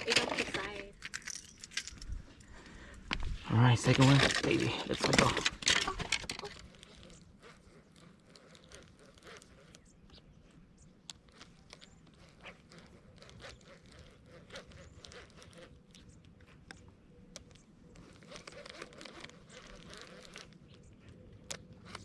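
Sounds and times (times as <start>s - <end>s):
crunching: 0.0s - 22.0s
faint clicks and scrapes: 0.0s - 22.0s.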